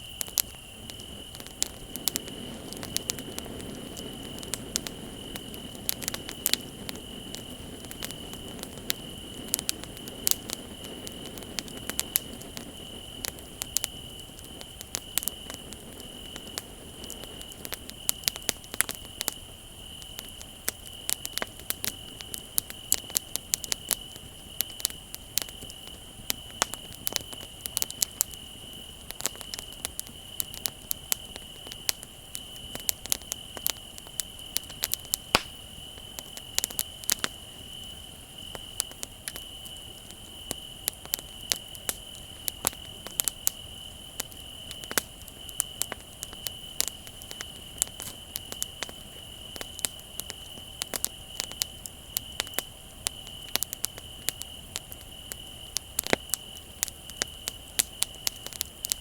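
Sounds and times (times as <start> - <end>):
bonfire crackling and popping: 0.0 - 59.0
crickets trilling: 0.0 - 59.0.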